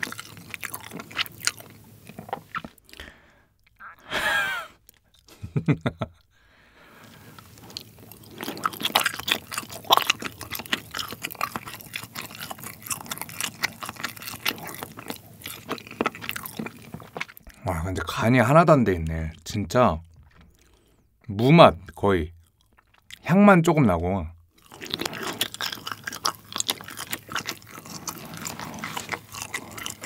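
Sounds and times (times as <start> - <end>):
wet chewing with small clicks: 0.0 - 3.8, 4.8 - 5.4, 7.0 - 18.1, 18.9 - 23.3, 24.4 - 30.0.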